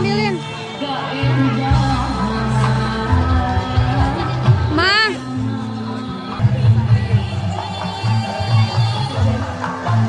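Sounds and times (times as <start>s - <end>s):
music with pulsing bass: 0.0s - 10.0s.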